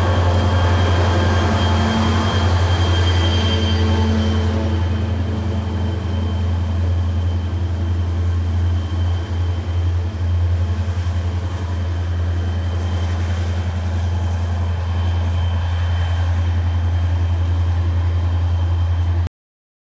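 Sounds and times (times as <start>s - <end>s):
diesel locomotive engine drone: 0.0s - 19.3s.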